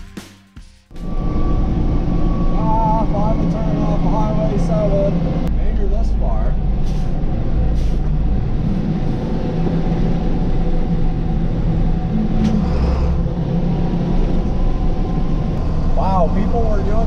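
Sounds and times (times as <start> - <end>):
diesel truck engine drone: 0.9 - 17.0
road noise: 0.9 - 17.0.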